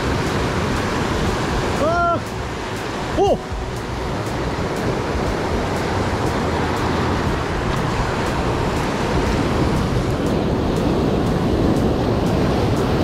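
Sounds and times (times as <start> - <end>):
surf breaking over rocks: 0.0 - 13.0
wind: 0.0 - 13.0.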